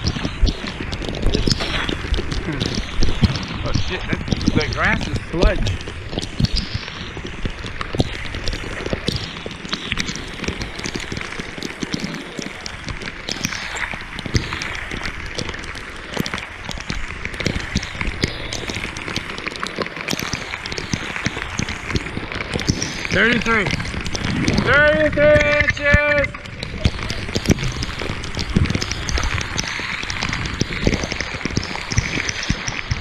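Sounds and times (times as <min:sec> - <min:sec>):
heavy rain pouring onto water: 0:00.0 - 0:33.0
raindrops hitting close by: 0:00.0 - 0:33.0.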